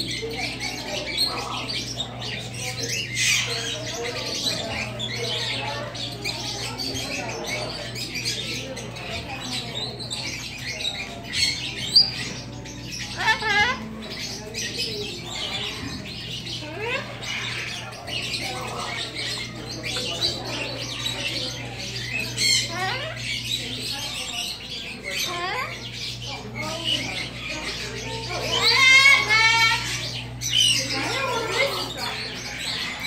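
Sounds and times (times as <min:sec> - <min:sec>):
parrots squawking and chattering: 0:00.0 - 0:33.0.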